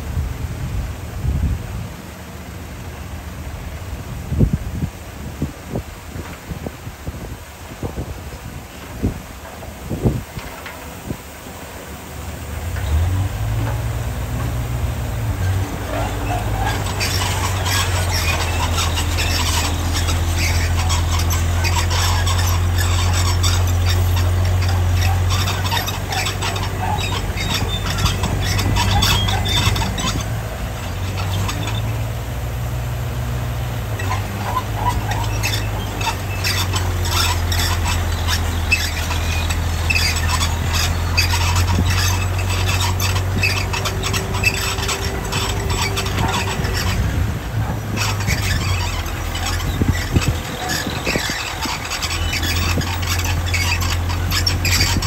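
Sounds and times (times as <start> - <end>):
bulldozer diesel engine: 0.0 - 55.0
steel tracks squealing and clanking: 7.6 - 55.0.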